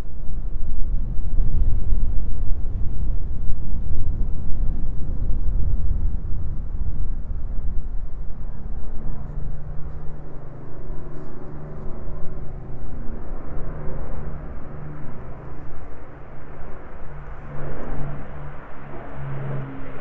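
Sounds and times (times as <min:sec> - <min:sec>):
propeller plane engines flying past: 0:00.0 - 0:20.0.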